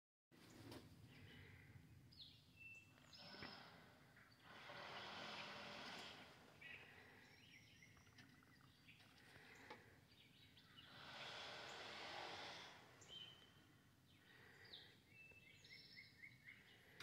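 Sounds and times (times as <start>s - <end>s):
faint bird chirps: 0.4s - 17.0s.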